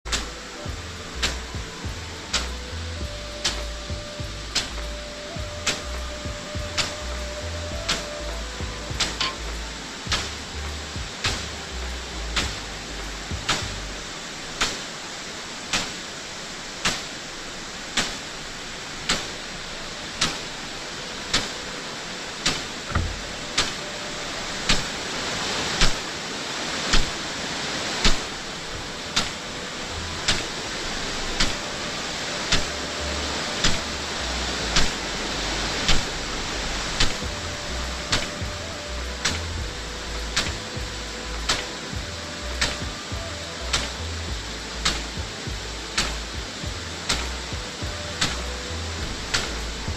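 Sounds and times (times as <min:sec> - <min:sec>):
sprinkler arm ticking: 0:00.0 - 0:15.1, 0:15.7 - 0:26.1, 0:26.8 - 0:27.2, 0:27.9 - 0:49.9
water spray hissing: 0:00.0 - 0:49.9.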